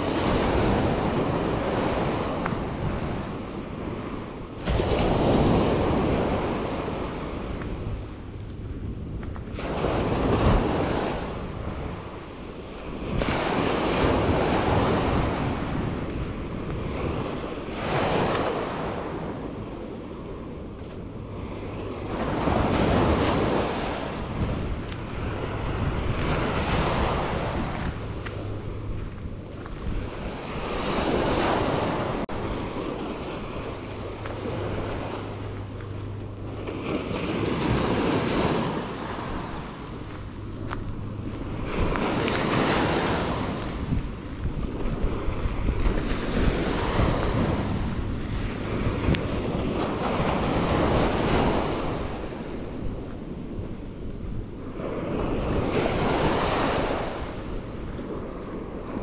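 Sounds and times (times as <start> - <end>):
ocean waves breaking: 0.0 - 59.0
wind rumble on microphone: 0.0 - 59.0.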